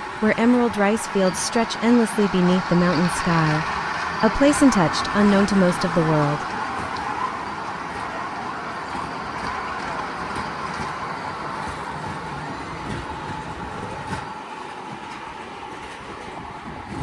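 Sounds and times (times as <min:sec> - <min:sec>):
small train rattling on track: 0:00.0 - 0:17.0.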